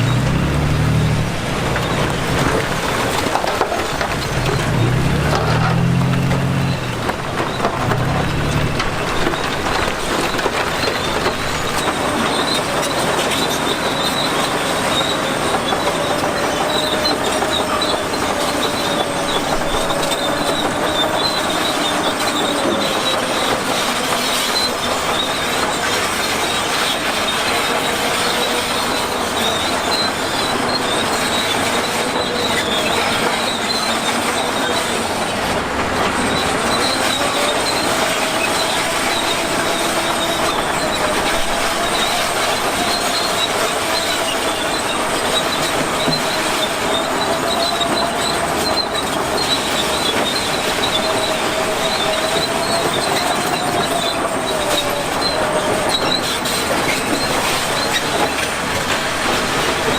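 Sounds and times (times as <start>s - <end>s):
bulldozer tracks clanking: 0.0s - 59.9s
grinding rattle: 0.0s - 59.9s
high-pitched squeal: 0.0s - 59.9s.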